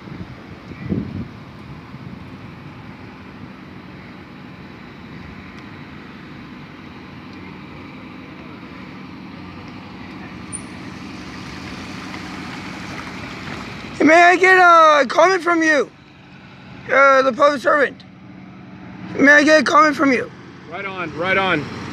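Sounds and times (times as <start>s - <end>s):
road noise: 0.0s - 21.9s
vehicle engine running: 0.0s - 21.9s.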